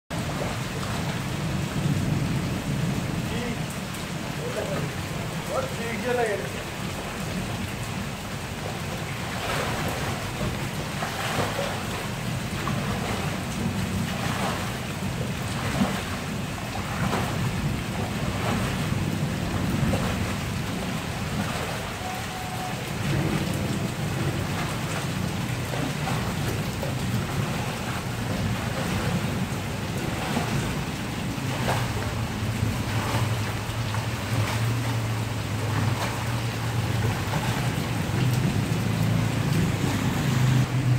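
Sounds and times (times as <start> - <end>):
squeegee splashing water: 0.1 - 40.7
heavy rain on concrete: 0.1 - 40.9.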